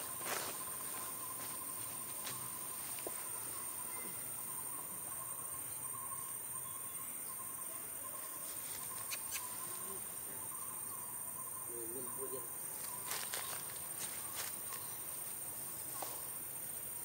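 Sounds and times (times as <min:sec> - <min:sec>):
constant hiss: 0:00.0 - 0:17.0
insects trilling: 0:00.0 - 0:17.0.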